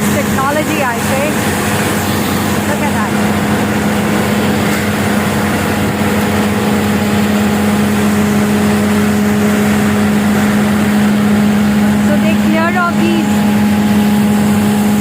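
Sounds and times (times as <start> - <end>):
vacuum truck humming: 0.0 - 15.0.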